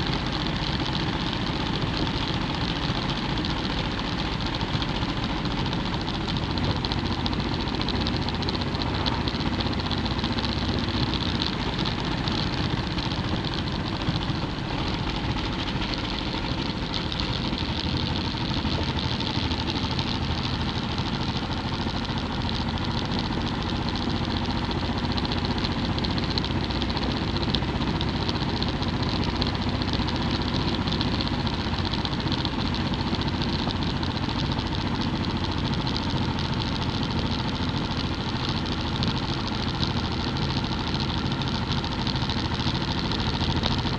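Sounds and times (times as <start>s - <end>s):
motorcycle engine running: 0.0s - 43.9s
wind and road noise: 0.0s - 43.9s.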